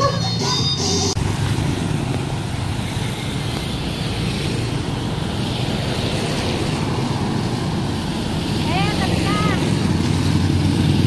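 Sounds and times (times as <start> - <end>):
traffic engine and tyre rumble: 0.0 - 11.0.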